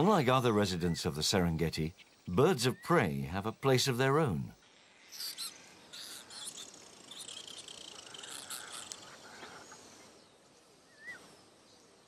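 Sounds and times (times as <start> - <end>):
insects chirping: 0.0 - 11.6
birds chirping and twittering: 0.0 - 12.0.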